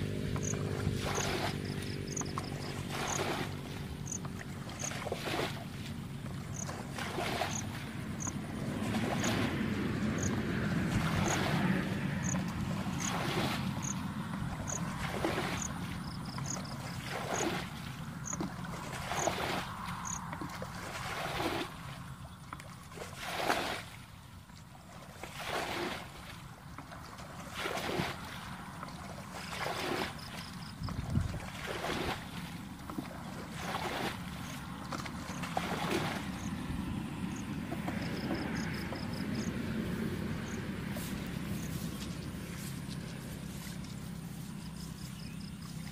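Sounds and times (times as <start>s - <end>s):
muddy water splashing: 0.0s - 45.9s.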